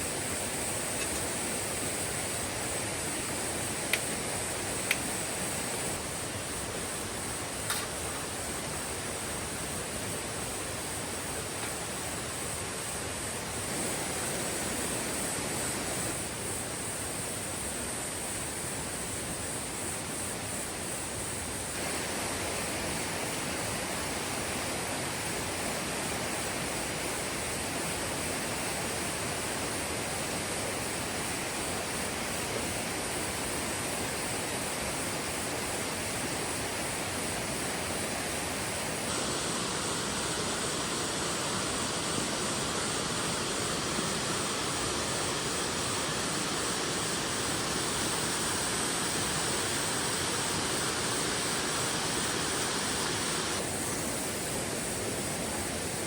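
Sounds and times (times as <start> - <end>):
insects trilling in grass: 0.0 - 56.0
stream water rushing: 0.0 - 56.0.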